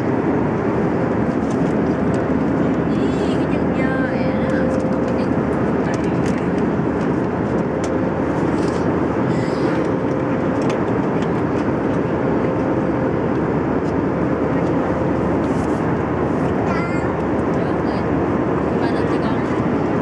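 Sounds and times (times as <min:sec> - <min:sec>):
airliner cabin engine and air rush: 0:00.0 - 0:20.0.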